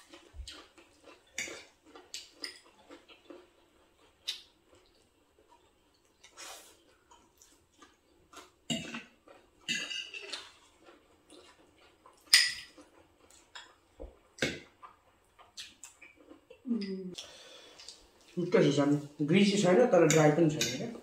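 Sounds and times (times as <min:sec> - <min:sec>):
chewing and mouth noises: 0:00.0 - 0:18.4.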